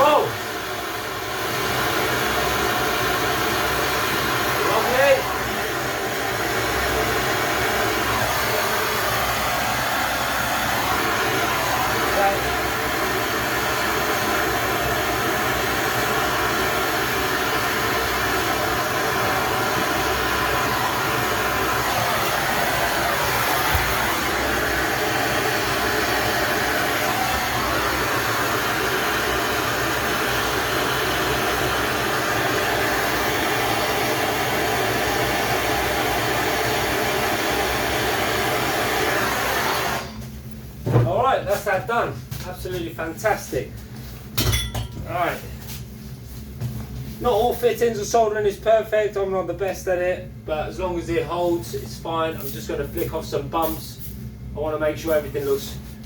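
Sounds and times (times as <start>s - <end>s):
gas torch roaring: 0.0s - 56.0s.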